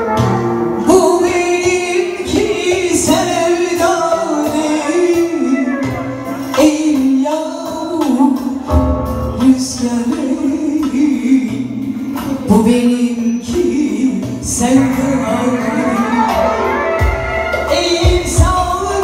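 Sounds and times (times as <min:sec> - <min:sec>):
woman singing into a microphone: 0:00.0 - 0:16.8, 0:17.4 - 0:19.0
drum: 0:00.0 - 0:19.0
guitar: 0:00.0 - 0:19.0.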